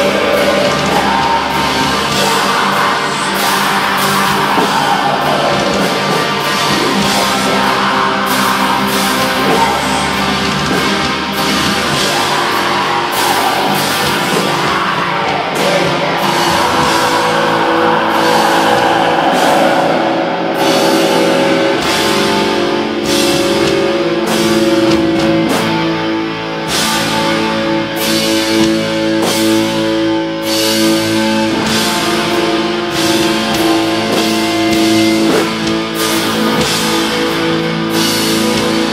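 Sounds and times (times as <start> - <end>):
distorted electric guitars: 0.0 - 38.9
drum kit with cymbal hits: 0.0 - 38.9
keyboards: 0.0 - 38.9.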